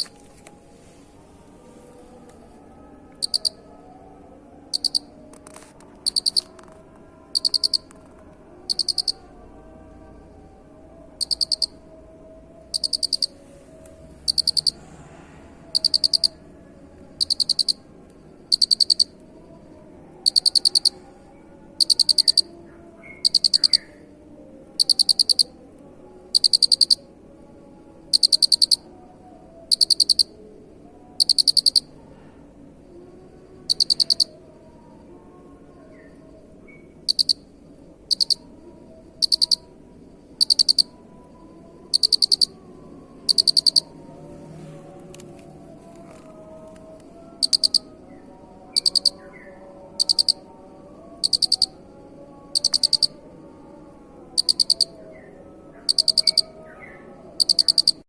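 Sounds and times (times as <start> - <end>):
faint steady hum: 0.0 - 58.0
cricket chirping: 3.0 - 58.0.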